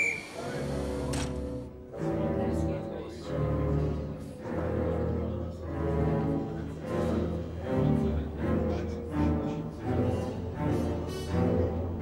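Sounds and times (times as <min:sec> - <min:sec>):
bowed cello and double bass: 0:00.4 - 0:12.0.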